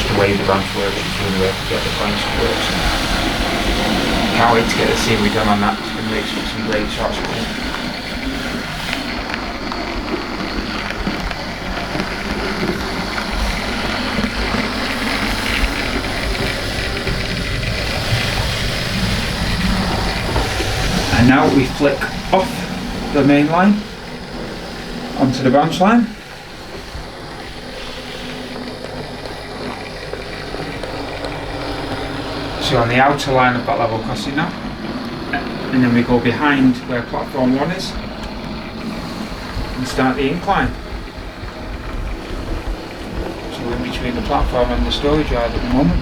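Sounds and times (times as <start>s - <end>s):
model train motor whirr: 0.0s - 46.0s
wheels rumbling on rails: 0.0s - 46.0s.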